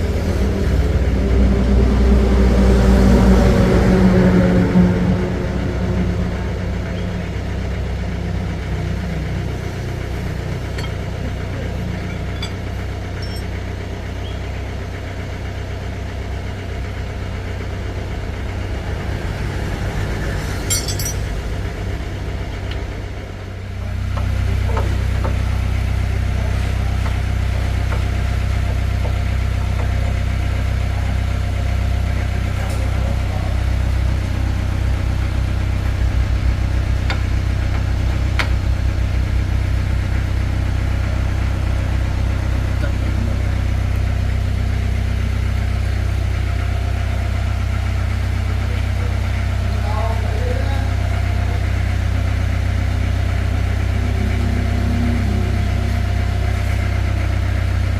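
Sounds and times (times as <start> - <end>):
engine idling: 0.0 - 57.9.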